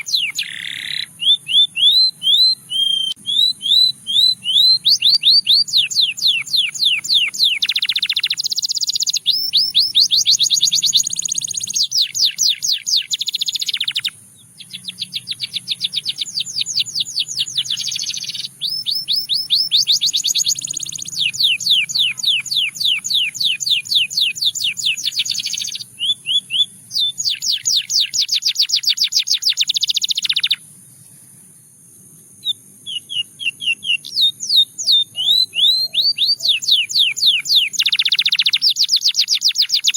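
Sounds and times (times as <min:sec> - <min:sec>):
canary singing trills: 0:00.0 - 0:31.3, 0:32.4 - 0:39.9.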